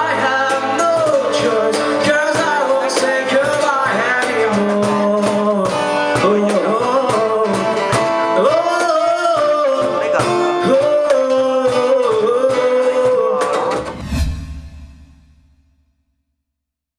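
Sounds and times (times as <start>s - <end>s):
guitar strumming: 0.0s - 14.0s
person singing: 0.0s - 14.0s.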